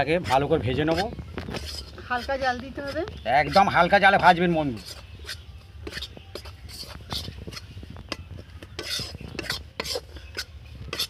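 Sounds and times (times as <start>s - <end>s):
steel spatula scraping metal pan: 0.3s - 7.7s, 8.8s - 11.0s.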